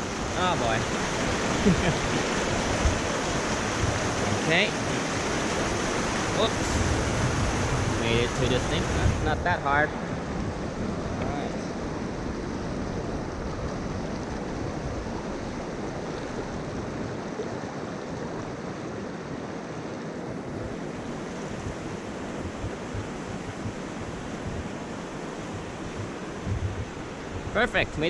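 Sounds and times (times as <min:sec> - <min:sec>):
wind buffeting microphone: 0:00.0 - 0:19.2, 0:20.2 - 0:28.0
river rushing: 0:00.0 - 0:28.0.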